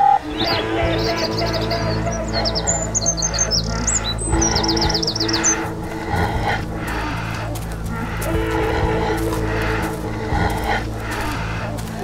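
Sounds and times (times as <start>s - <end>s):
background music: 0.0s - 12.0s
bird chirping: 0.0s - 12.0s.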